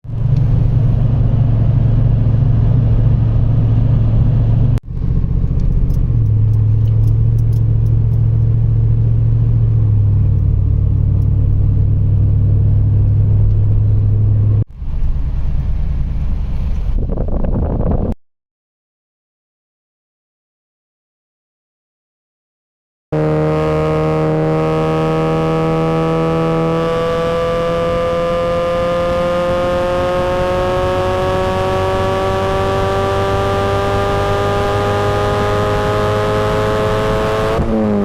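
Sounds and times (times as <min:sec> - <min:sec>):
car engine running hard: 0:00.1 - 0:17.9, 0:23.2 - 0:38.0.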